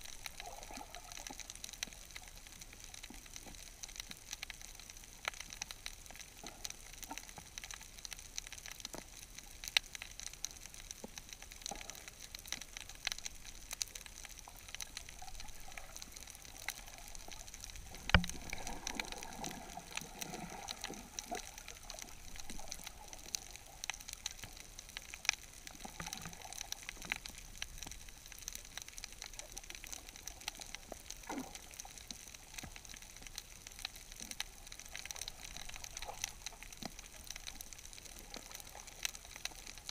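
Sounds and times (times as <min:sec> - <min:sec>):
underwater clicks and crackles: 0:00.0 - 0:39.9
water gurgling: 0:00.0 - 0:39.9.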